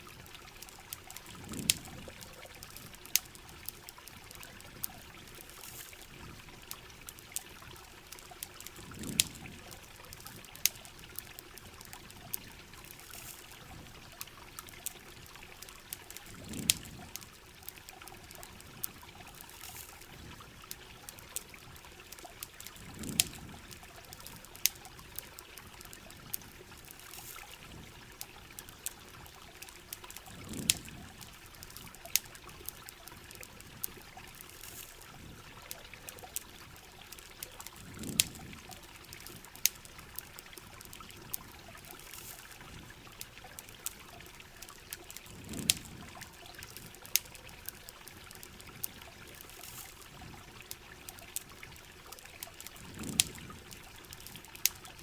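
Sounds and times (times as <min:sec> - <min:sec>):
rain hissing: 0:00.0 - 0:07.0, 0:08.3 - 0:14.3, 0:15.0 - 0:21.4, 0:22.6 - 0:28.9, 0:29.6 - 0:50.9, 0:52.7 - 0:54.9
campfire crackling: 0:00.0 - 0:55.0
water pouring: 0:00.0 - 0:55.0.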